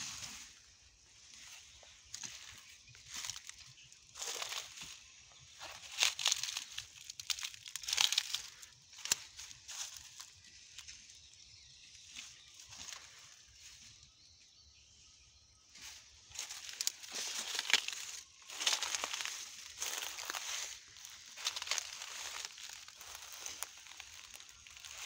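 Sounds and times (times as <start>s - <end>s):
footsteps crunching on dry straw: 0.0s - 14.0s, 15.8s - 25.0s.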